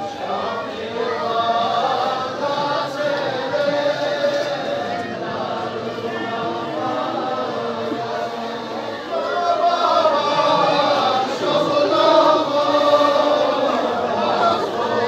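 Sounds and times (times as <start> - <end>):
group of voices chanting: 0.0 - 15.0.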